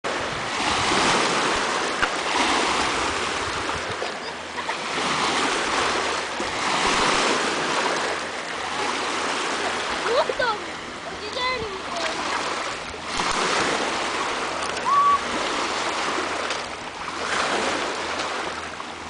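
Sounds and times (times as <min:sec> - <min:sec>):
waves washing over stony shore: 0:00.1 - 0:18.8.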